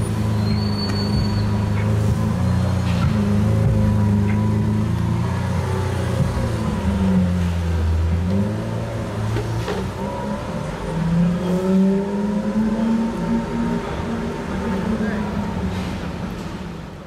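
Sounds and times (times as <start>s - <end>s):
car engine revving: 1.1s - 16.1s.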